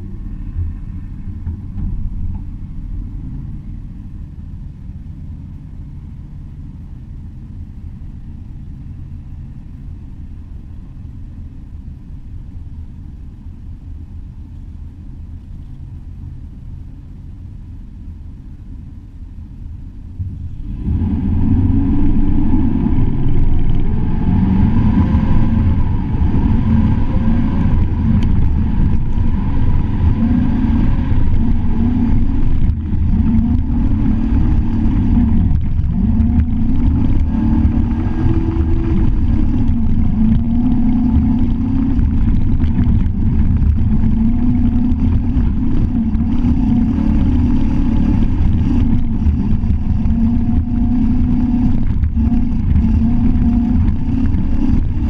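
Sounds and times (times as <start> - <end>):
truck engine idling and accelerating: 0.0 - 55.0.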